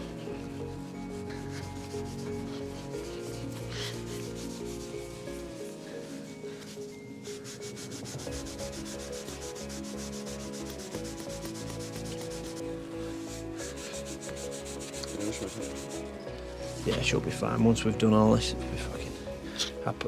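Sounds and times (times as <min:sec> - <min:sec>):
cloth rubbing on metal: 0:00.0 - 0:20.0.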